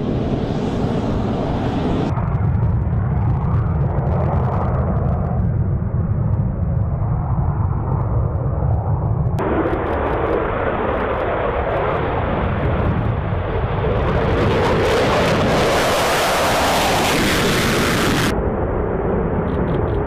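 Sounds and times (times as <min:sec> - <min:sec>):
fighter jet engine roar: 0:00.0 - 0:20.0.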